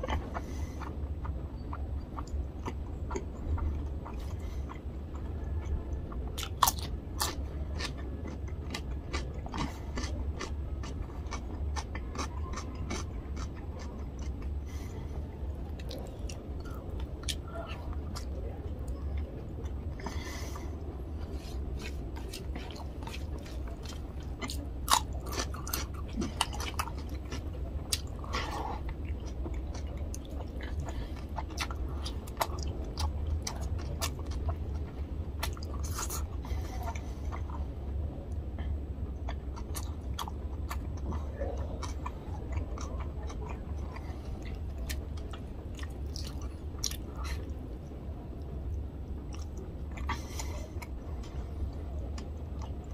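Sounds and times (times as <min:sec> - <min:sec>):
man chewing food: 0:00.0 - 0:47.8, 0:48.4 - 0:52.9
steady low hum: 0:00.0 - 0:52.9.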